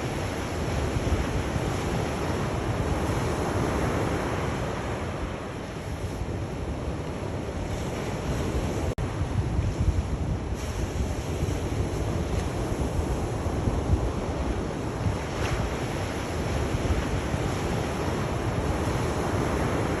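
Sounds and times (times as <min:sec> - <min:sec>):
waves washing in: 0:00.0 - 0:20.0
wind buffeting microphone: 0:00.0 - 0:20.0.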